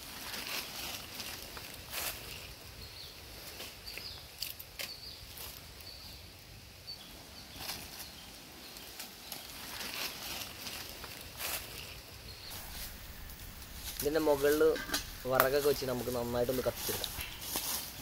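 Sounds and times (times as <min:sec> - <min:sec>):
dry sticks and leaves rustling: 0:00.0 - 0:06.2, 0:07.0 - 0:18.0.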